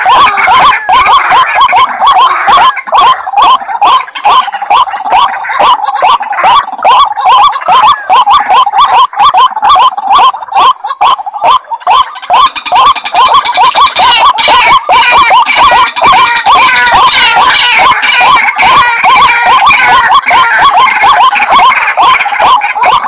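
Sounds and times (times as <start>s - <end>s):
waterhens calling: 0.0s - 23.0s.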